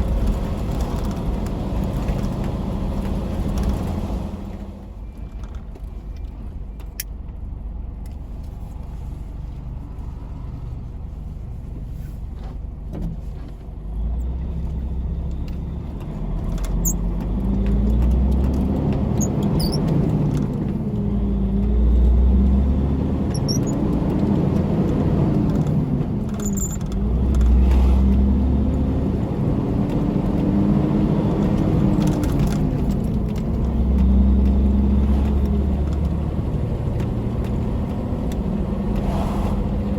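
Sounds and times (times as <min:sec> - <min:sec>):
truck diesel engine shifting gears: 0:00.0 - 0:39.9.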